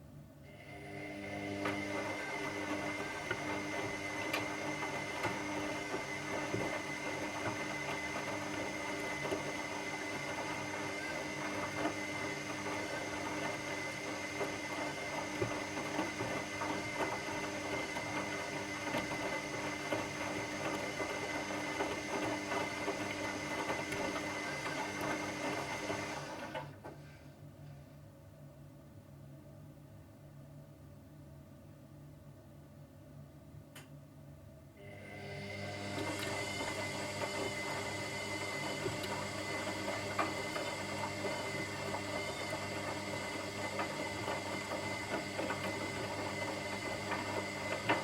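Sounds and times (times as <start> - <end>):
washing machine churning: 0.5 - 26.8, 34.8 - 48.0
washing machine motor whine: 0.5 - 26.8, 34.8 - 48.0.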